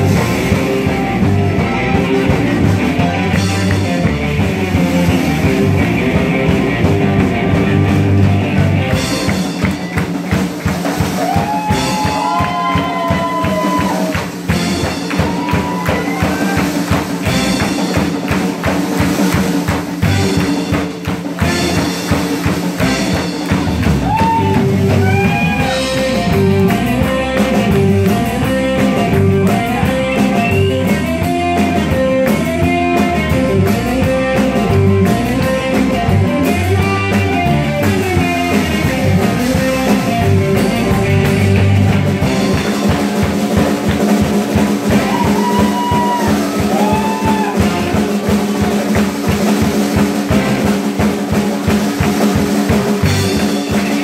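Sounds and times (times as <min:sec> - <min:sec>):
drum kit beat: 0:00.0 - 0:54.0
live rock band playing: 0:00.0 - 0:54.0.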